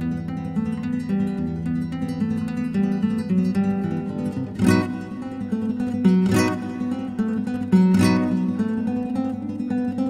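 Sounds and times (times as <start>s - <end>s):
classical guitar playing: 0.0s - 10.0s.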